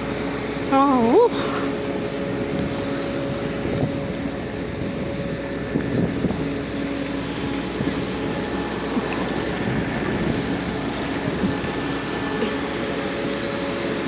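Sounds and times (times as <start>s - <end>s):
droning tones: 0.0s - 14.0s
jet airliner engine hum: 0.0s - 14.0s.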